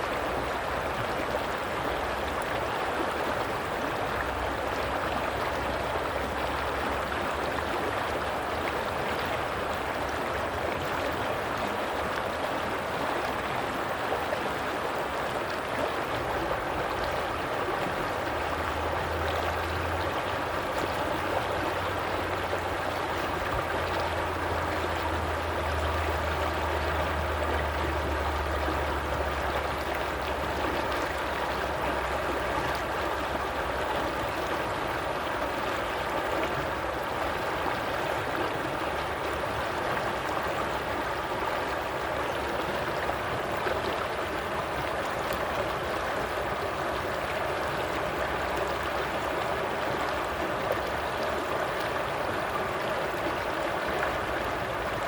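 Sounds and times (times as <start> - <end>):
stream water flowing and splashing: 0.0 - 55.0.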